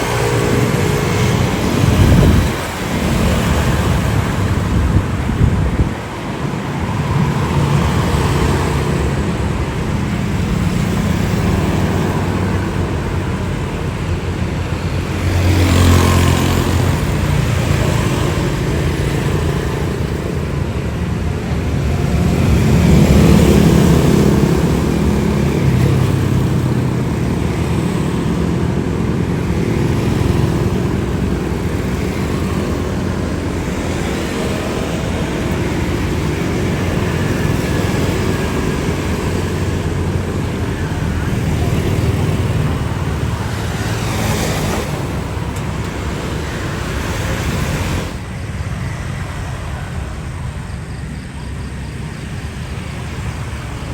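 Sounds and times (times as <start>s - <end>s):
engine noise: 0.0s - 53.9s.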